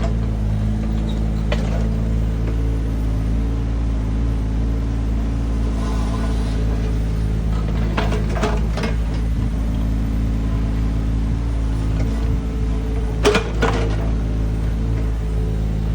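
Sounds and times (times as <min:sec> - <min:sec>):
excavator diesel engine running: 0:00.0 - 0:15.9.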